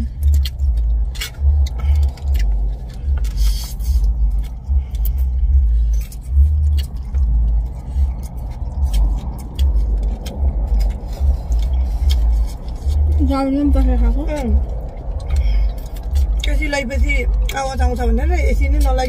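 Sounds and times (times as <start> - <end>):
chewing and slurping noodles: 0.0 - 16.7
low uneven rumble: 0.0 - 19.0.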